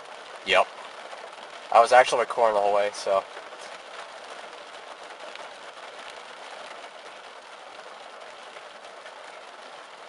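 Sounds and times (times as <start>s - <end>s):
heavy rain on a car roof: 0.0s - 10.0s.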